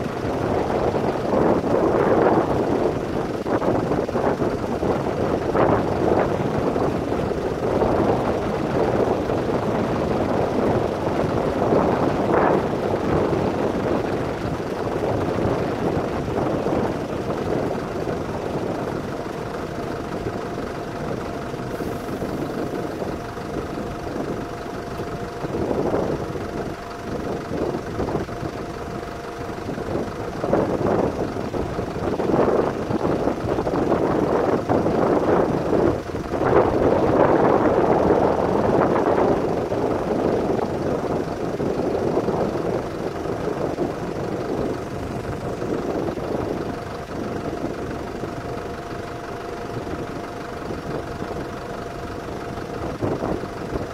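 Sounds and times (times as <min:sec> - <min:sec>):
wind and wildfire rushing: 0:00.0 - 0:48.5
steady engine hum: 0:00.0 - 0:53.9.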